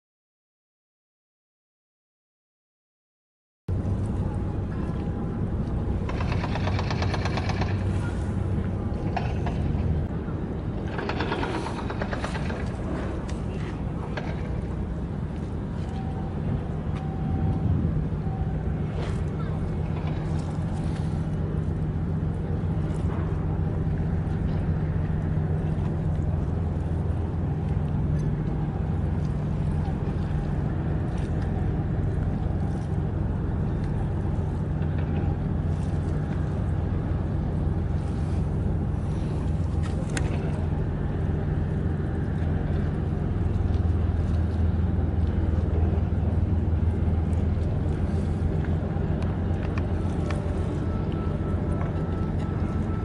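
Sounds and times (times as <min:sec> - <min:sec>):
low engine drone: 0:03.7 - 0:53.0.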